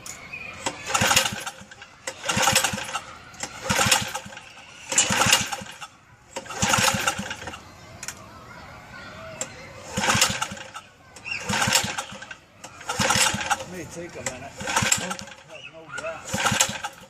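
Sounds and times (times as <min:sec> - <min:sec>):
small engine pull-start whirring: 0:00.0 - 0:08.2, 0:09.4 - 0:17.0.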